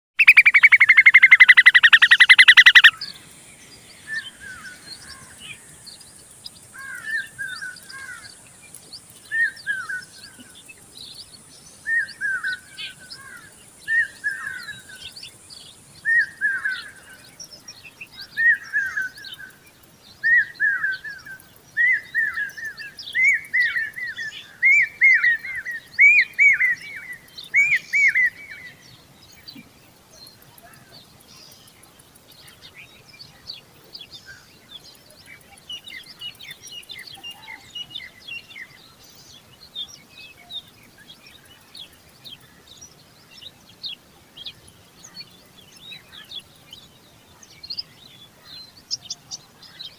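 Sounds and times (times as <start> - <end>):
bird chirping: 0.2 - 49.9.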